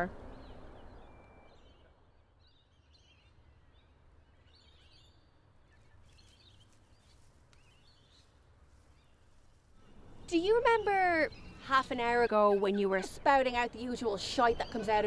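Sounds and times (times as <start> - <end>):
faint songbird chirps: 0.0 - 15.0.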